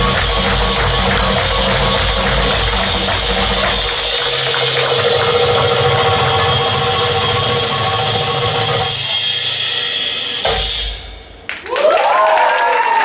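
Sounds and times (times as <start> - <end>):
audience applause and cheering: 0.0 - 9.0, 11.4 - 13.0
darbuka percussion music: 0.0 - 11.8.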